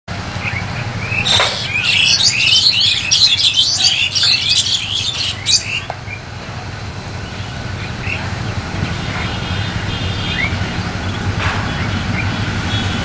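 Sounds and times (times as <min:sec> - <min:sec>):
low steady rumble: 0:00.1 - 0:13.0
small birds chirping: 0:00.4 - 0:06.3, 0:07.2 - 0:13.0.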